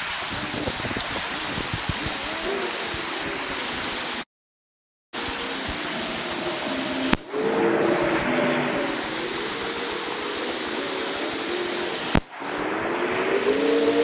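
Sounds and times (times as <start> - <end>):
creek water rushing: 0.0 - 4.2, 5.2 - 14.0.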